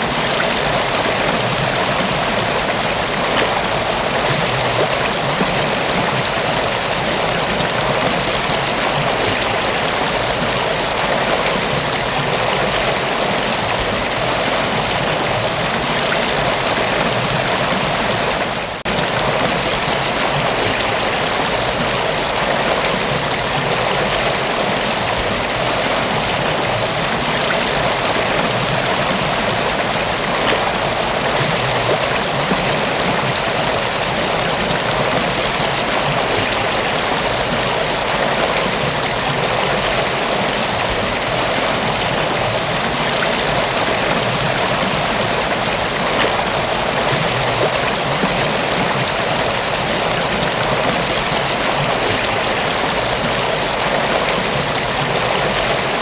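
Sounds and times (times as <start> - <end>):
water splashes: 0.0 - 56.0
waterfall rushing: 0.0 - 56.0.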